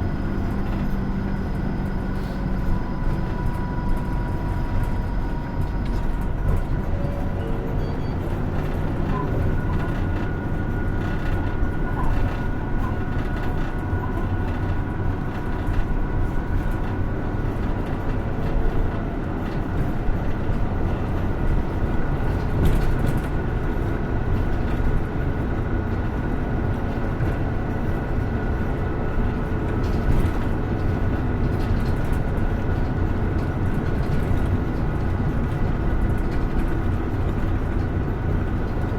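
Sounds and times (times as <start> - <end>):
bus diesel engine: 0.0 - 38.9
road rumble: 0.0 - 38.9.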